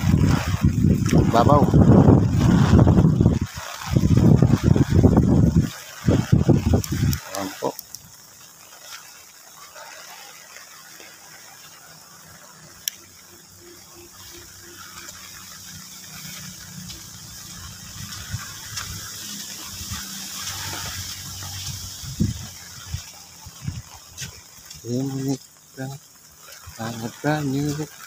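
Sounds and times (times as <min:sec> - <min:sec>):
stream water flowing: 0:00.0 - 0:28.0.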